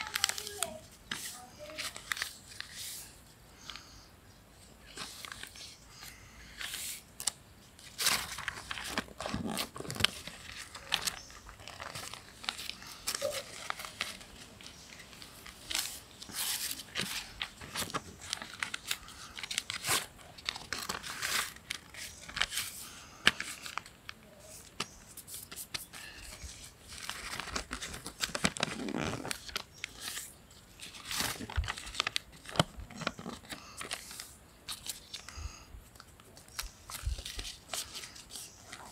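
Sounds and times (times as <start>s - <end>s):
paper folding and crinkling: 0.0s - 3.9s, 4.6s - 38.9s.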